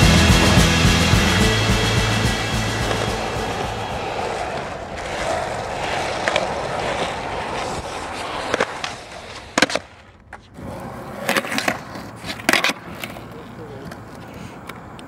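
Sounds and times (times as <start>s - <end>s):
skateboard wheels rolling on pavement: 1.7s - 15.0s.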